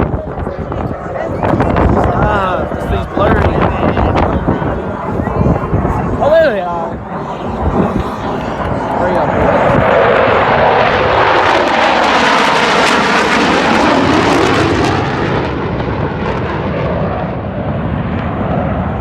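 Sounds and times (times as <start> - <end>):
fighter jets flying past: 0.0 - 19.0.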